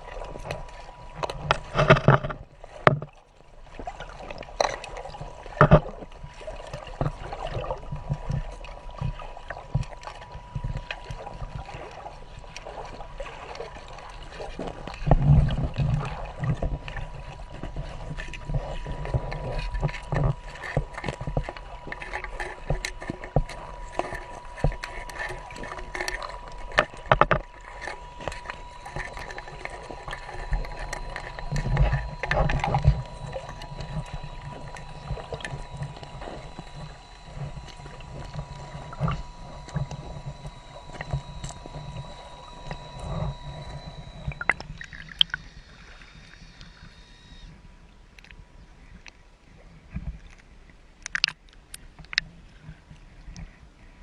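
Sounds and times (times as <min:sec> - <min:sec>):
water sloshing: 0:00.0 - 0:48.4
faint high hum: 0:00.0 - 0:50.3.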